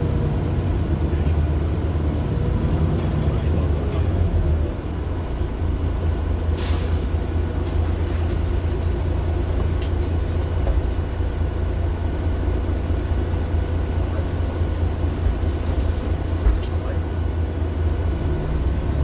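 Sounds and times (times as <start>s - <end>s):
bus diesel engine rumbling: 0.0s - 19.0s.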